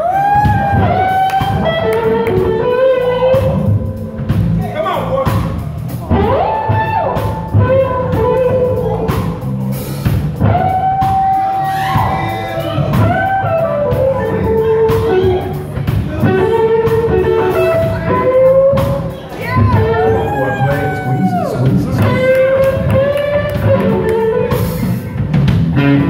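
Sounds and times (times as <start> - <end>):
electric guitar bending notes: 0.0 - 26.0
live blues band: 0.0 - 26.0.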